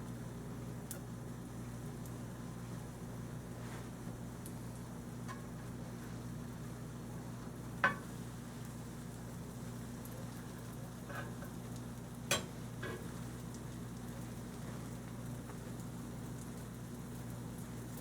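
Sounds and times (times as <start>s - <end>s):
sandwich sizzling in butter: 1.6s - 18.0s.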